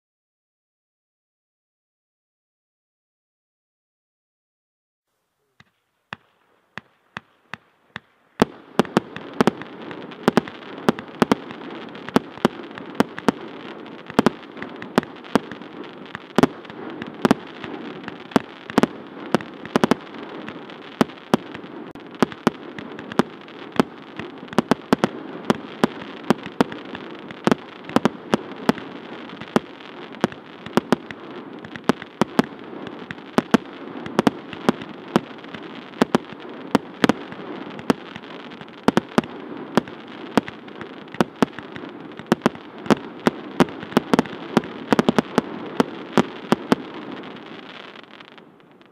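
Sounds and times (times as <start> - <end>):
firework crackling hiss: 5.4 - 48.9
firework reports: 5.4 - 48.9.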